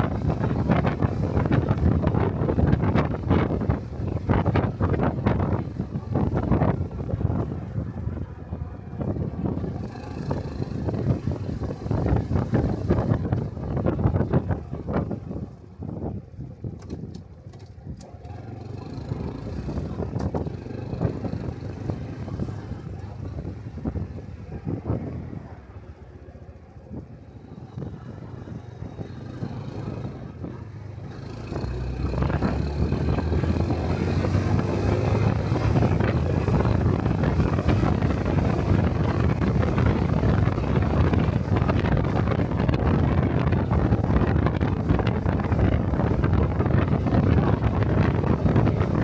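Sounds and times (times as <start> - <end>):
wind on microphone: 0.0 - 18.0, 18.9 - 49.0
motorcycle engine running: 0.0 - 49.0.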